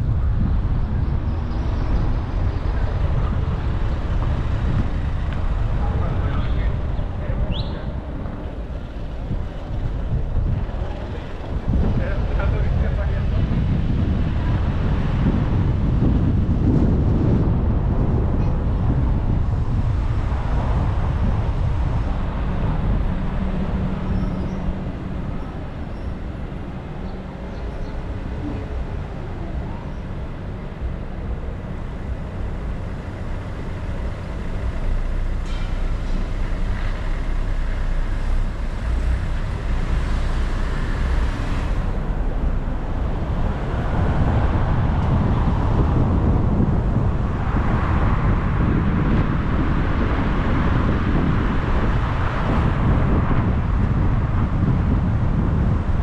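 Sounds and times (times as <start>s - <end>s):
highway traffic rumble: 0.0s - 56.0s.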